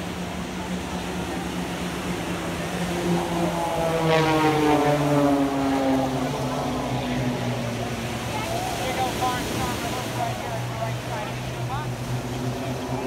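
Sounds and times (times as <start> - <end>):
propeller planes droning overhead: 0.0 - 13.0.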